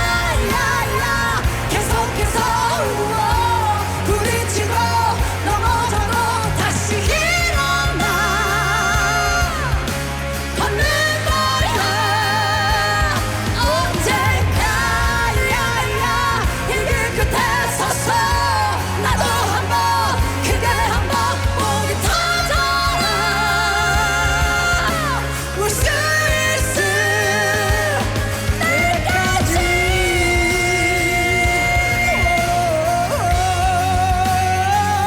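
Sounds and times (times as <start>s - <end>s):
person singing: 0.0s - 35.0s
pop-rock band: 0.0s - 35.0s
steady bass line: 0.0s - 35.0s.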